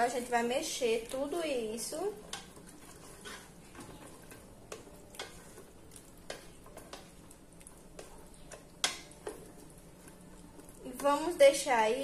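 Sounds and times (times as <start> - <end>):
spatula stirring thick sauce: 0.1 - 12.0.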